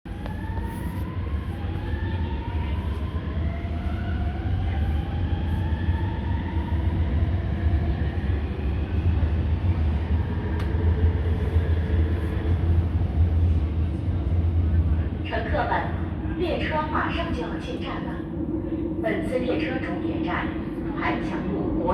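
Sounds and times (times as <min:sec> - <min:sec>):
train rumble: 0:00.1 - 0:21.9.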